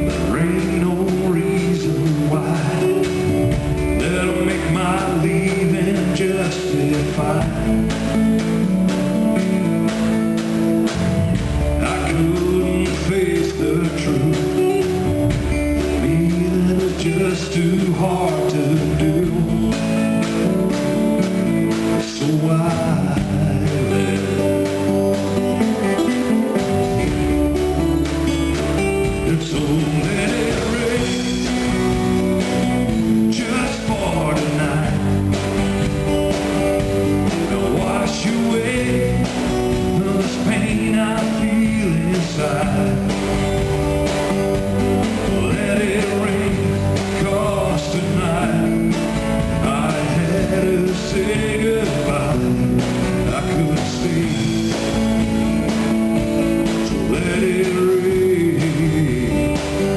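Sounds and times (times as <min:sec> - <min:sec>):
live country rock band: 0:00.0 - 0:59.9.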